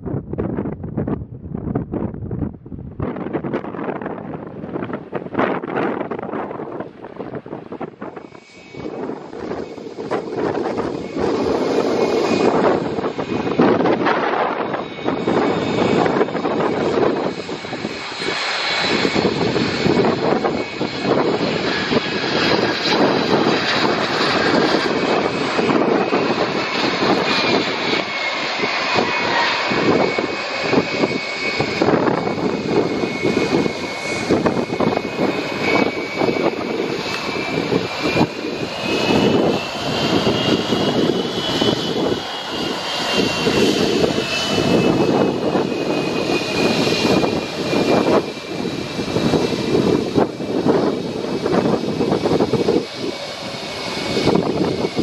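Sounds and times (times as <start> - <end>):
jet engine roar with fan whine: 0.0 - 55.0.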